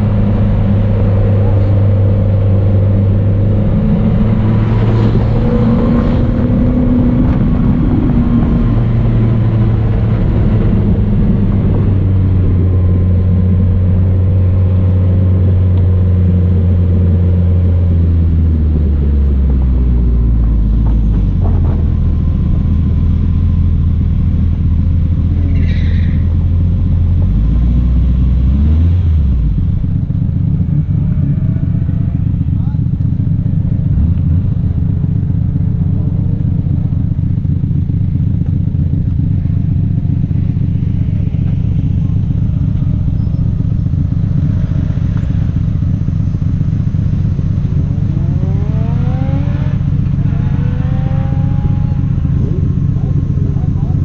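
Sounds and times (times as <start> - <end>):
rally car engine running: 0.0 - 54.0.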